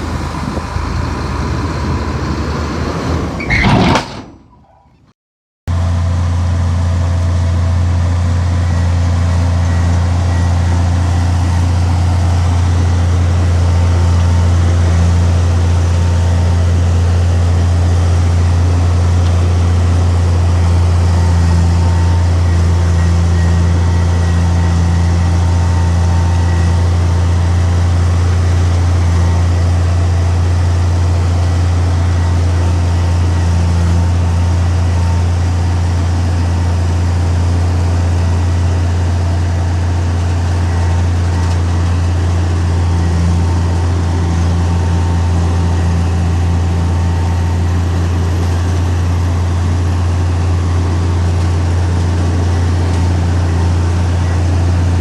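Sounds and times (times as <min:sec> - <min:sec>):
heavy diesel engine drone: 0:00.0 - 0:04.7, 0:05.7 - 0:55.0.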